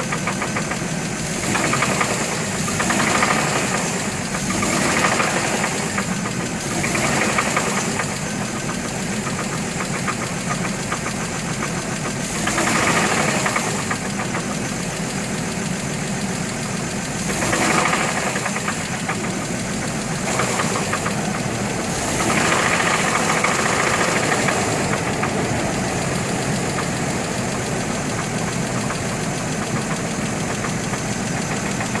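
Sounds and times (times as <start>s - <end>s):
engine running with knocking: 0.0s - 32.0s.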